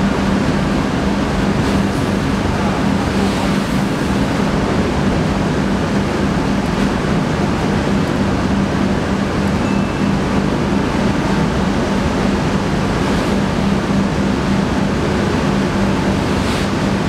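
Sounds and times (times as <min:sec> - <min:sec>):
constant low hum: 0:00.0 - 0:17.0
mill machinery rushing noise: 0:00.0 - 0:17.0.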